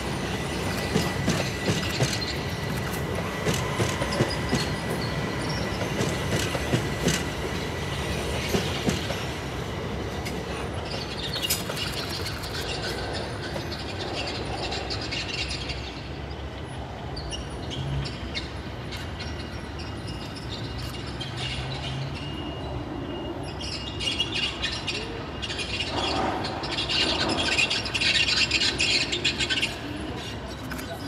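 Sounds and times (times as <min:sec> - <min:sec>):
electric trains rumbling on tracks: 0:00.0 - 0:31.0.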